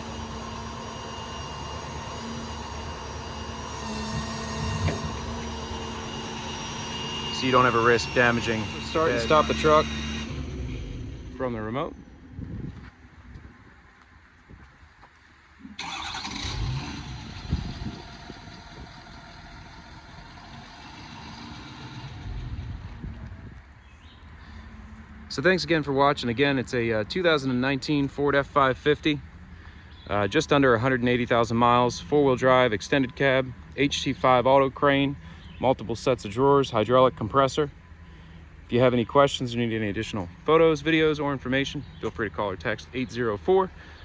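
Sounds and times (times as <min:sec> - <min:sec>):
hydraulics running: 0:00.0 - 0:12.7, 0:15.6 - 0:44.0
diesel truck engine humming: 0:00.0 - 0:13.2, 0:15.6 - 0:44.0.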